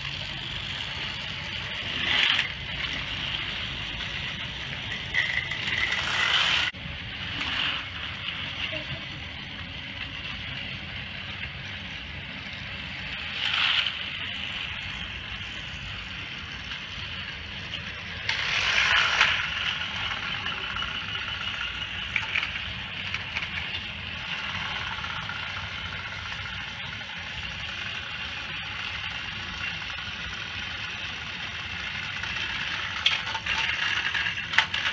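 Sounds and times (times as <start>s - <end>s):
toy train motor whirring: 0.0s - 34.9s
wheels rattling over track joints: 0.0s - 34.9s.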